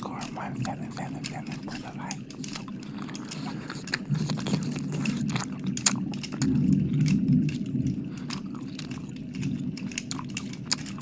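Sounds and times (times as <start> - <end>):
low rumble: 0.0 - 11.0
wet mouth smacks and clicks: 0.2 - 11.0.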